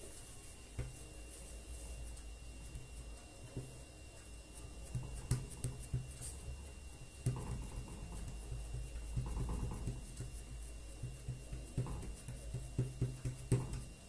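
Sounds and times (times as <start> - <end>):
hands patting dough on wooden table: 0.0 - 14.0
low steady hum: 0.0 - 14.0.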